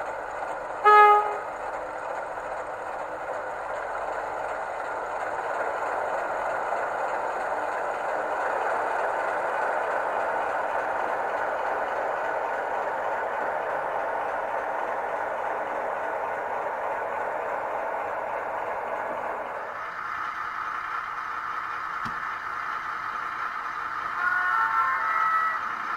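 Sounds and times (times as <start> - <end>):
model train running on track: 0.0 - 25.9.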